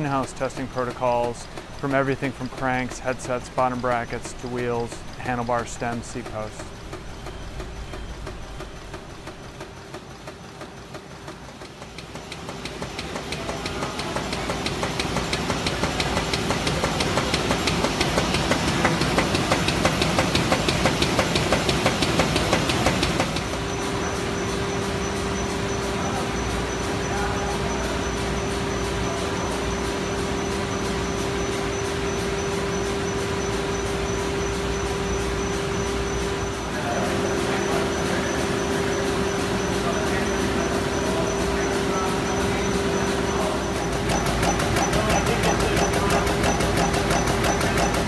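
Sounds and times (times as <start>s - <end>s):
machine hum with patter: 0.0s - 48.0s
test machine clacking: 0.0s - 48.0s.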